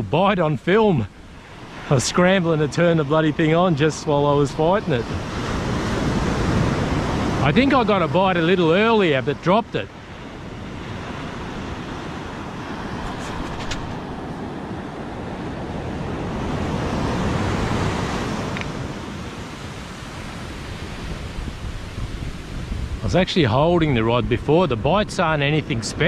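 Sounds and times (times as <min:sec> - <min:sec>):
surf breaking on beach: 0:00.0 - 0:26.0.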